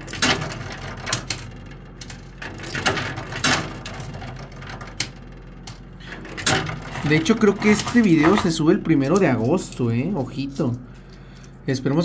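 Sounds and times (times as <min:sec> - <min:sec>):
coins clinking in arcade machine: 0:00.0 - 0:12.0
low steady hum: 0:00.0 - 0:12.0.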